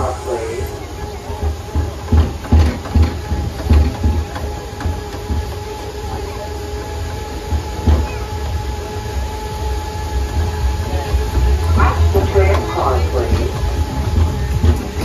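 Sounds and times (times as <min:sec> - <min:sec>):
tram drone: 0:00.0 - 0:15.0
tram wheels knocking on wooden planks: 0:01.2 - 0:15.0.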